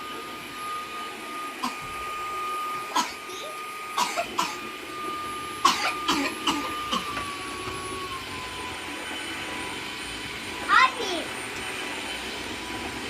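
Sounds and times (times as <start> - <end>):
mop vacuum whining: 0.0 - 13.0.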